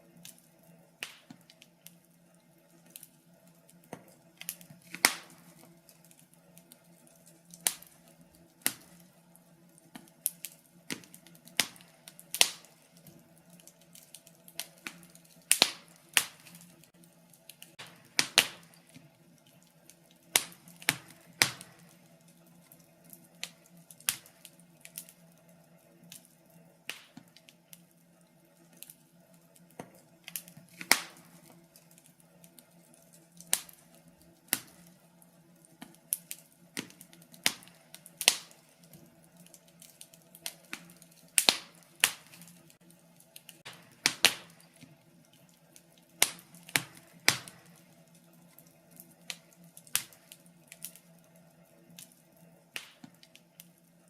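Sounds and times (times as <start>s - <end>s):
faint steady hum: 0.0s - 54.0s
wood fire crackling and popping: 0.0s - 54.0s.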